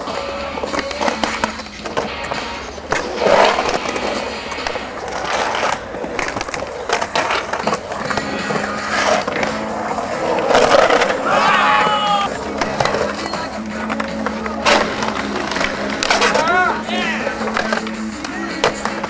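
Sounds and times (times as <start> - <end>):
skateboard wheels rolling on concrete: 0.0 - 19.0
skateboard knocking: 0.1 - 19.0.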